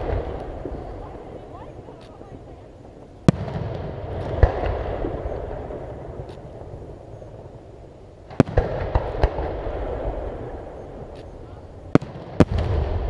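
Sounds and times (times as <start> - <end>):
firework shells bursting: 0.0 - 13.0
rumbling echo: 0.0 - 13.0.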